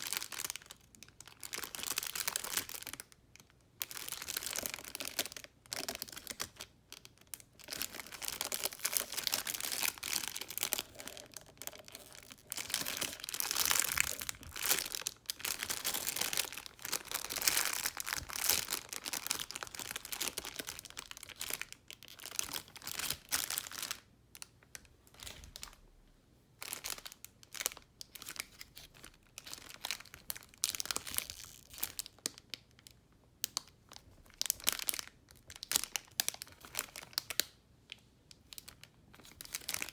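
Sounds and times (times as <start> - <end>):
plastic packaging crinkling: 0.0 - 24.0, 26.6 - 32.3, 33.9 - 37.4, 38.6 - 39.9.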